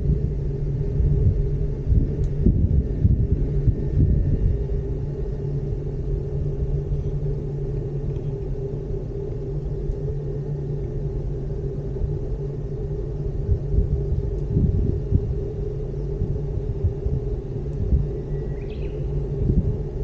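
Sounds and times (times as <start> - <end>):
gondola cabin rumbling and humming: 0.0 - 20.0.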